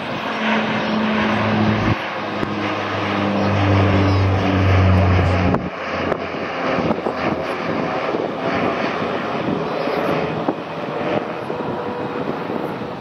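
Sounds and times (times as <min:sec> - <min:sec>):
airliner engines running: 0:00.0 - 0:13.0.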